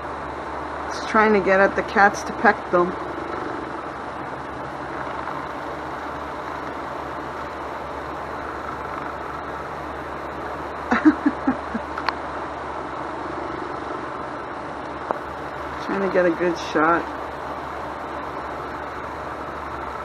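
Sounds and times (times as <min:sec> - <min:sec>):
steady background rumble: 0:00.0 - 0:20.0.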